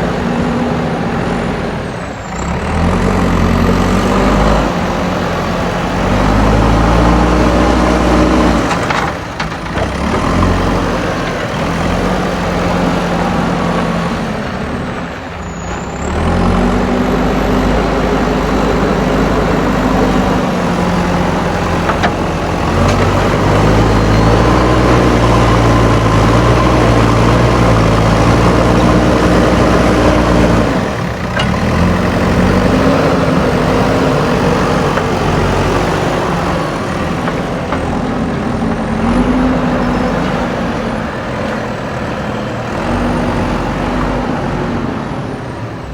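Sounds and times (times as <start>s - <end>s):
diesel engine revving: 0.0s - 45.9s.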